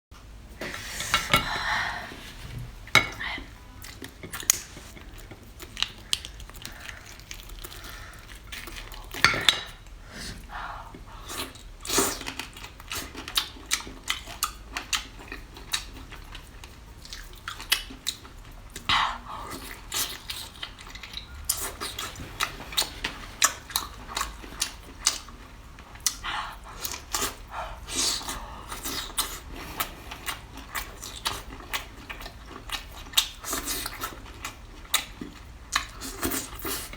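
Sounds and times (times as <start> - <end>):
chewing: 3.8 - 10.0, 10.9 - 36.9.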